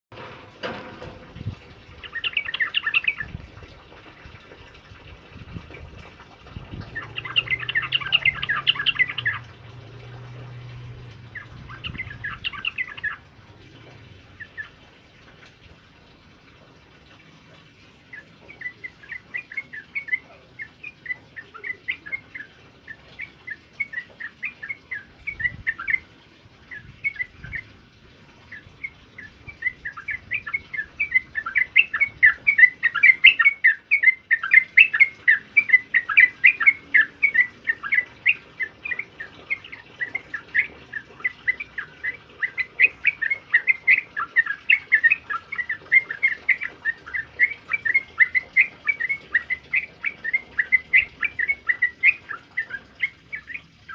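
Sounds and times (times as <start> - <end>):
bulbul song: 1.8 - 4.8, 5.4 - 15.4, 17.2 - 53.9.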